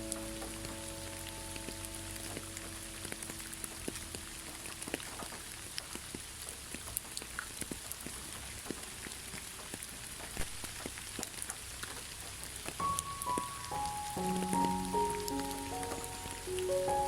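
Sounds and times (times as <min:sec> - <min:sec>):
rain hissing: 0:00.0 - 0:17.0
raindrops tapping on a surface: 0:00.0 - 0:17.0.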